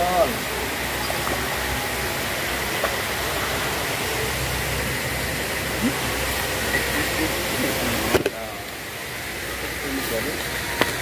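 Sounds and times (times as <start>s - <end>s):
river water rushing over weir: 0.0s - 11.0s.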